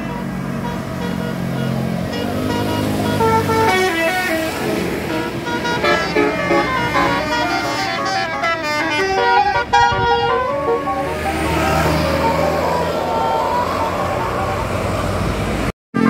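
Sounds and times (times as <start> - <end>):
bus engine running: 0.0 - 16.0
multi-tone bus horn melody: 0.0 - 16.0.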